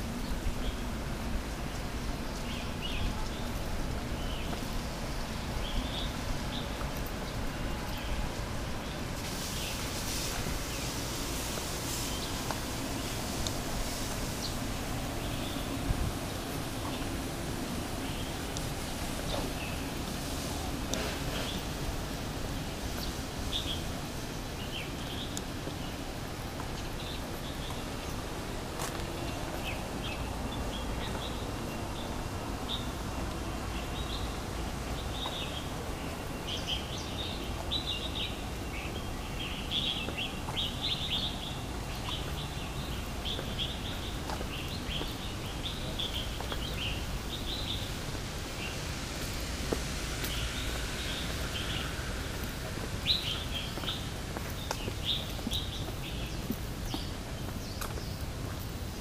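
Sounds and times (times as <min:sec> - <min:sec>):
steady low background noise: 0:00.0 - 0:59.0
birds chirping: 0:01.7 - 0:20.1, 0:22.5 - 0:48.9, 0:50.1 - 0:59.0.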